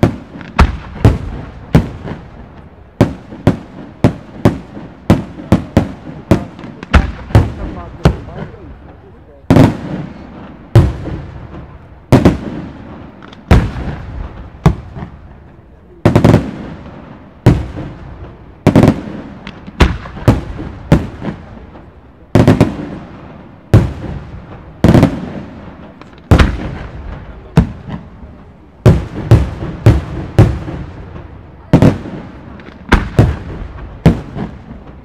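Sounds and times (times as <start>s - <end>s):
fireworks bursting with echo: 0.0s - 35.0s.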